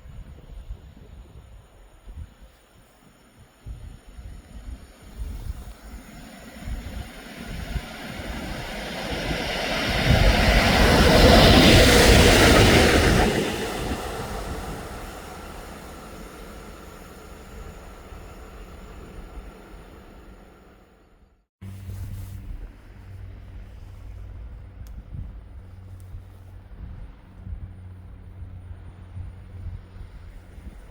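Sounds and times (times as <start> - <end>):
wheel-on-rail noise: 2.5 - 30.9
train passing: 2.8 - 30.9.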